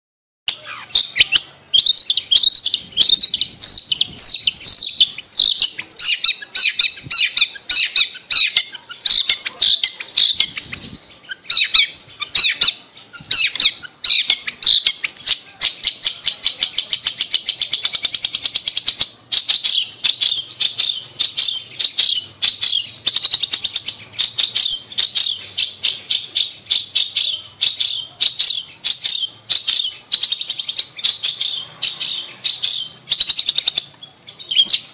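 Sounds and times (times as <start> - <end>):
shrike singing: 0.5 - 34.9.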